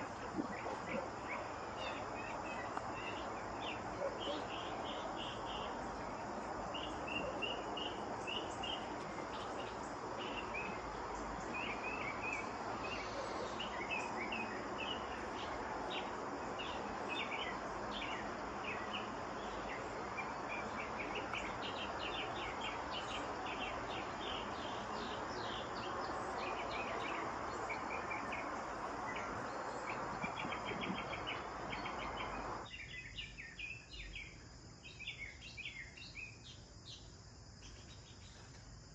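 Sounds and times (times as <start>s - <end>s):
sparrows chirping: 0.0s - 34.3s
steady background hiss: 0.0s - 38.9s.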